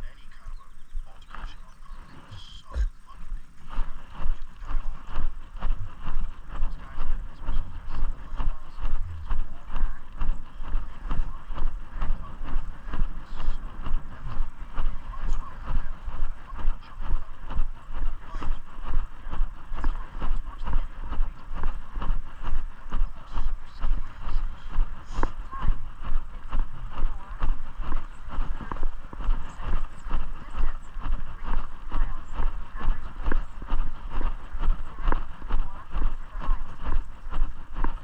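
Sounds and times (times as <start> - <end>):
low microphone rumble: 0.0 - 38.0
footsteps walking: 1.9 - 38.0.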